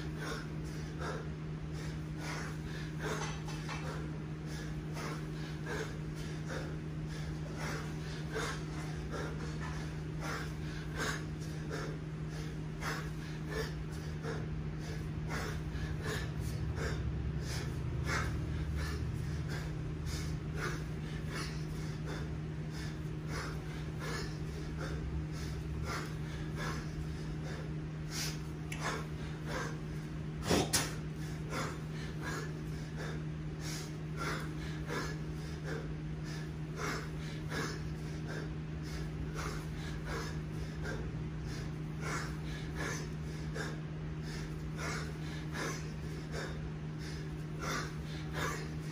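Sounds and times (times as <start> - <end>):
man breathing hard: 0.0 - 48.9
steady low hum: 0.0 - 48.9.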